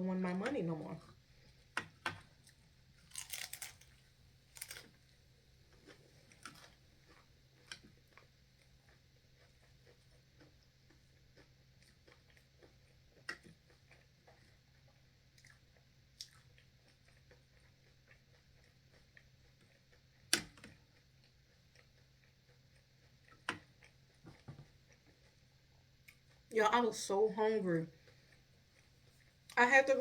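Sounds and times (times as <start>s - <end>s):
person chewing crunchy food: 1.1s - 26.5s, 27.9s - 29.6s.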